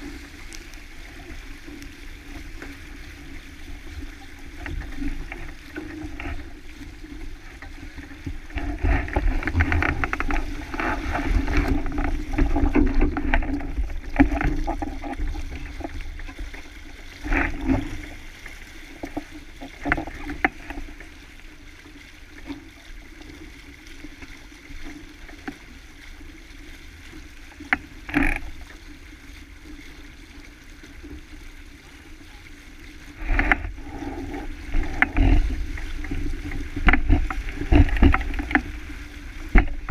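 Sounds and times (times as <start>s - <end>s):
water rushing along boat hull: 0.0s - 39.9s.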